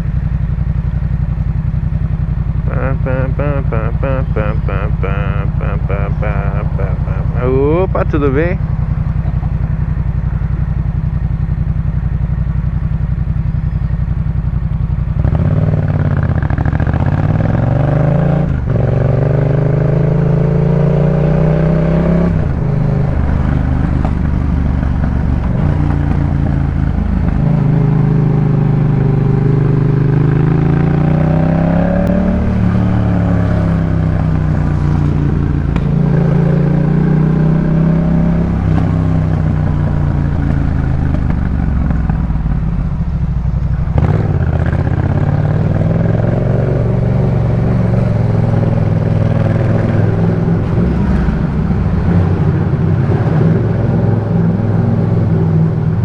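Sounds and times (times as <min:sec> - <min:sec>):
motorcycle engine accelerating: 0:00.0 - 0:56.0
motorcycle engine running: 0:00.0 - 0:56.0.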